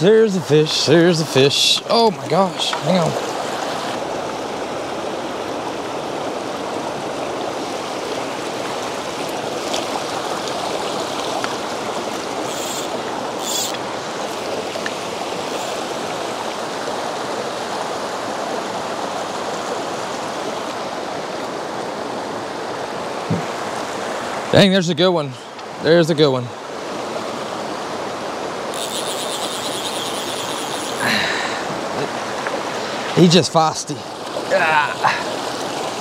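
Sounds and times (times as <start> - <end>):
river rushing over rocks: 0.0 - 24.8, 30.3 - 36.0.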